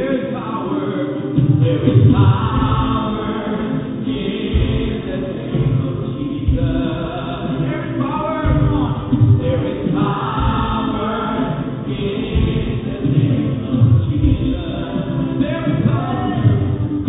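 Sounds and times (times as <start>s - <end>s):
group singing worship song: 0.0s - 17.0s
low musical accompaniment: 0.0s - 17.0s.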